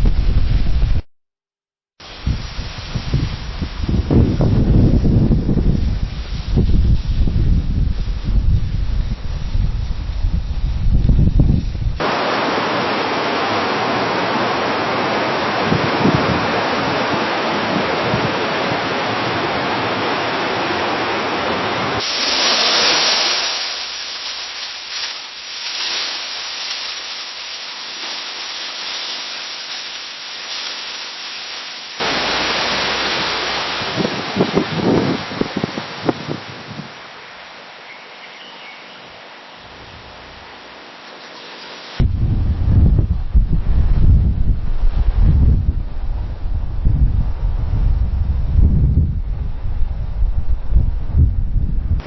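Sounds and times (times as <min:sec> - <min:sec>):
wind rustling tree leaves: 0:00.0 - 0:01.0, 0:02.0 - 0:52.0.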